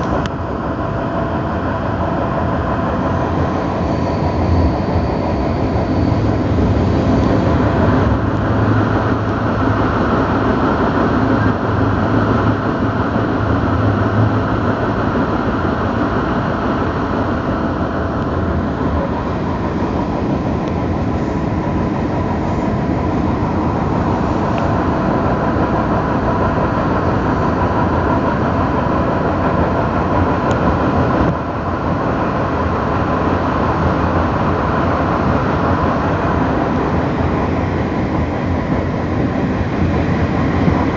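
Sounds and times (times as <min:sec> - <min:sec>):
train rumbling inside carriage: 0:00.0 - 0:40.9.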